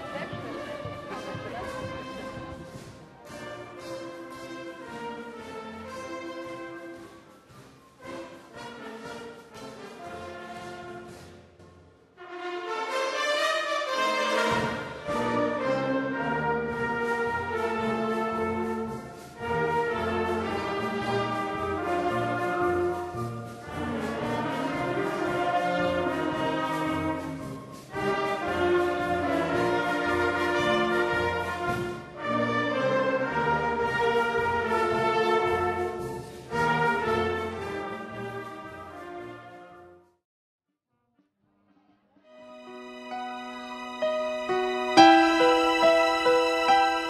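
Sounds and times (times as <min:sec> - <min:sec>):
brass band playing: 0:00.0 - 0:11.4, 0:12.2 - 0:40.0, 0:42.4 - 0:47.0.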